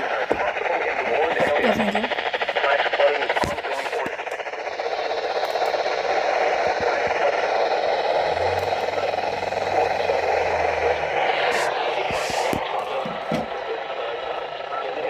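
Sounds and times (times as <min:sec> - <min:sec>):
low hum: 0:00.0 - 0:14.8
radio static hiss: 0:00.0 - 0:15.0.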